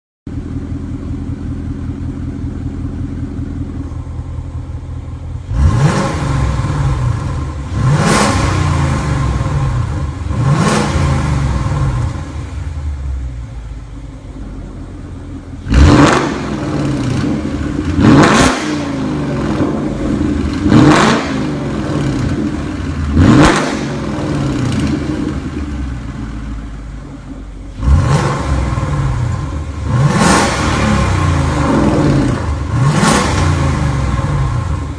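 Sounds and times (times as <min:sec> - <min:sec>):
car engine idling and revving: 0:00.3 - 0:34.9.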